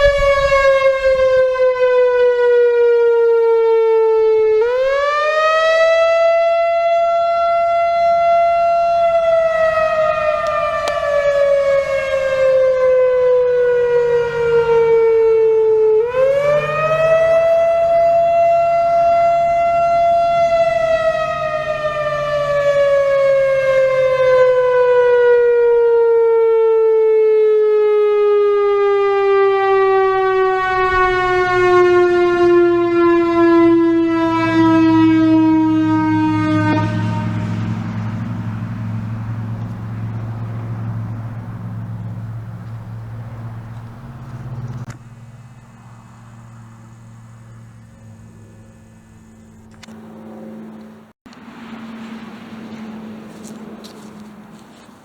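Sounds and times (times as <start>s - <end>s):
electronic siren wailing: 0.0s - 50.9s.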